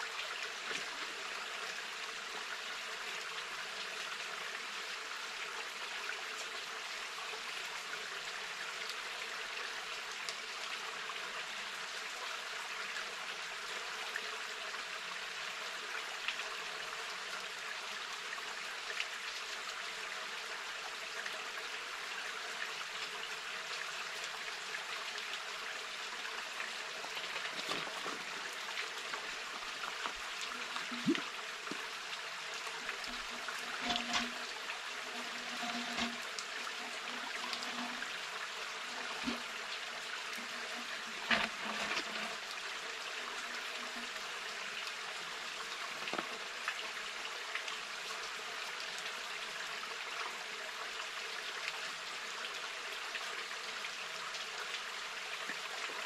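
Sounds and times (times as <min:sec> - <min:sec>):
forest stream running: 0:00.0 - 0:56.0.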